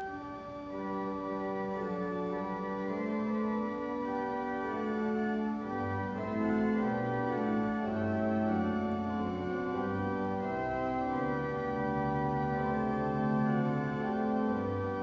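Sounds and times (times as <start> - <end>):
church organ playing chords: 0.0 - 15.0.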